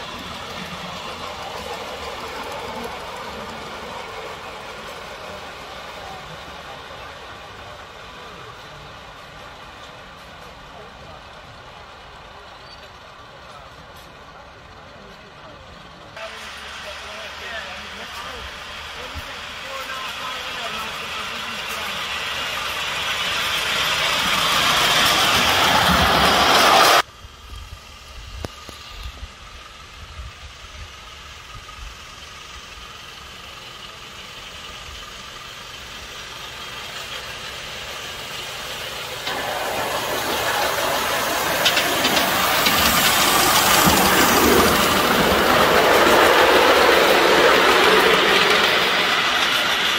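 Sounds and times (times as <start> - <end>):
loud steam hiss: 0.0 - 13.4, 16.1 - 49.9
model steam locomotive running: 0.0 - 49.9.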